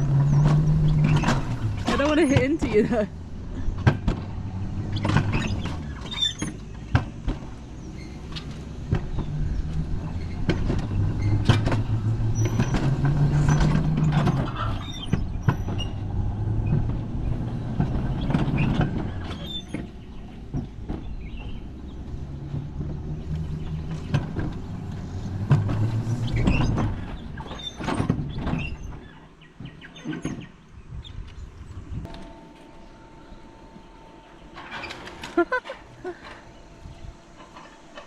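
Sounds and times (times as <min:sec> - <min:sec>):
coaster wheels rumbling on rail: 0:00.0 - 0:38.0.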